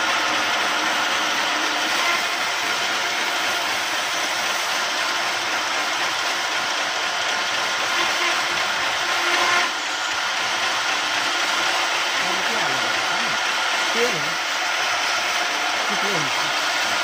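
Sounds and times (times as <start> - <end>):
band saw cutting log: 0.0 - 17.0.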